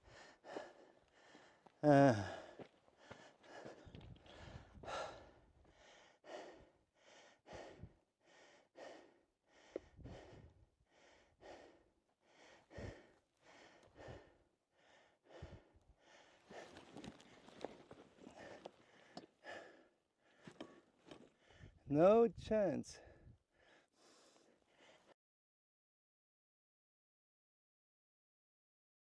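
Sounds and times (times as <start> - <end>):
man breathing hard: 0.0 - 21.9, 23.0 - 25.2.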